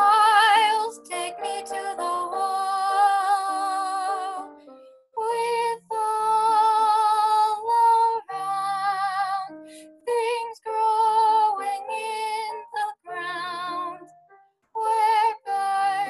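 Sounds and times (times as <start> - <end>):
girl singing with vibrato: 0.0 - 4.5, 5.2 - 14.1, 14.8 - 16.0.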